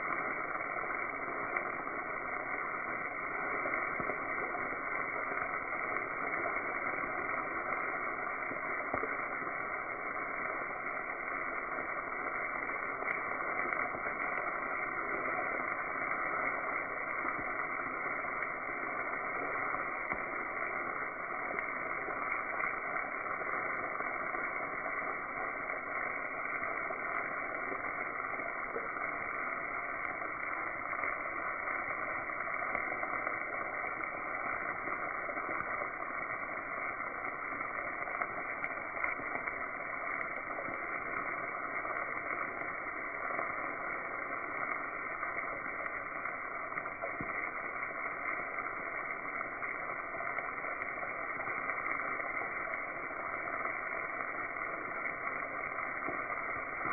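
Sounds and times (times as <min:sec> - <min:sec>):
mushrooms sizzling in frying pan: 0:00.0 - 0:56.9.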